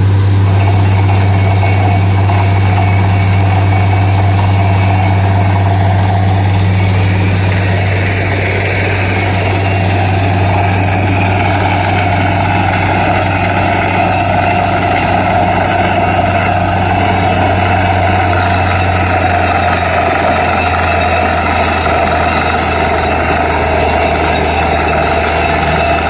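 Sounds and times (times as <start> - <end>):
drilling rig engine running: 0.0 - 26.0.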